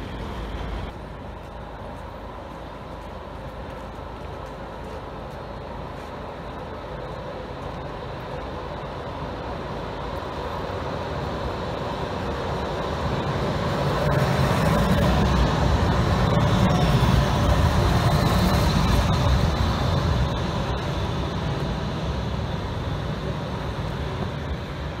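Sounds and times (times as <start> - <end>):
electric tram passing on rails: 0.0 - 25.0.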